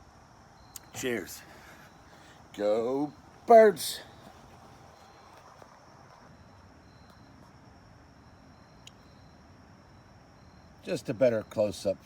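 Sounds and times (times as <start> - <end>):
cricket-like chirps: 0.0 - 12.0.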